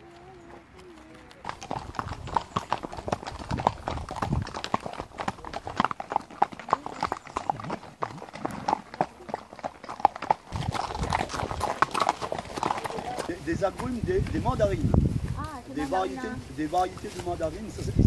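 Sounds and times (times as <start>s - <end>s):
horse hooves clip-clopping on pavement: 0.0s - 18.0s.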